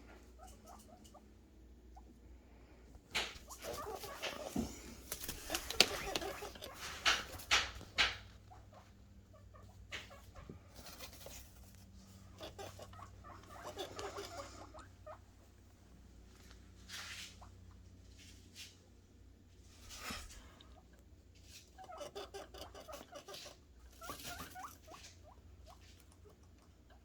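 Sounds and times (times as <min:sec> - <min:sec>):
guinea pigs squeaking: 0:00.0 - 0:02.4, 0:03.0 - 0:18.2, 0:19.6 - 0:27.0
guinea pigs scuffling: 0:00.0 - 0:27.0.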